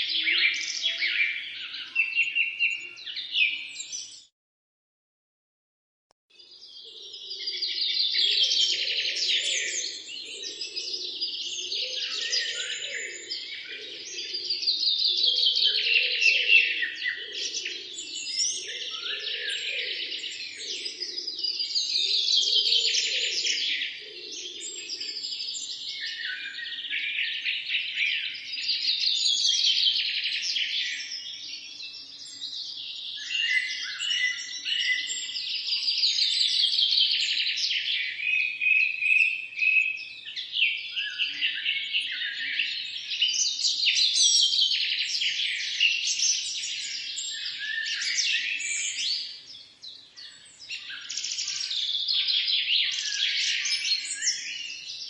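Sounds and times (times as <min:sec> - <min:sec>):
birds singing and chirping: 0:00.0 - 0:04.3, 0:06.4 - 0:55.0.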